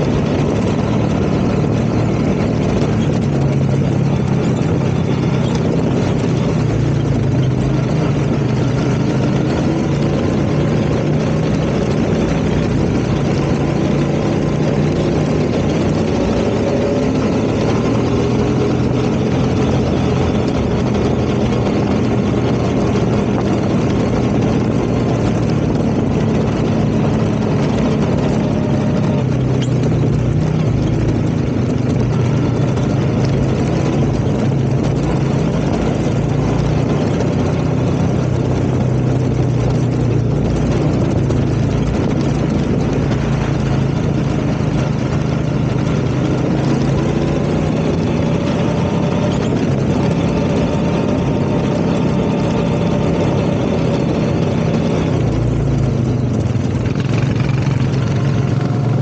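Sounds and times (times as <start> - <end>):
atv engine humming: 0.0 - 59.0.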